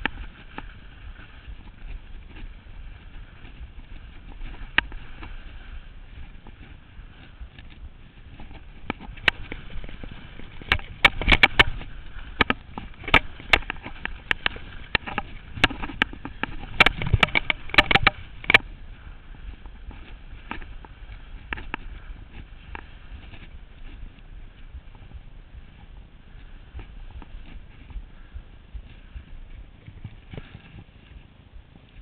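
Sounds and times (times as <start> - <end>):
skis and poles knocking on snow: 0.0 - 32.0
steady low hiss: 0.0 - 32.0.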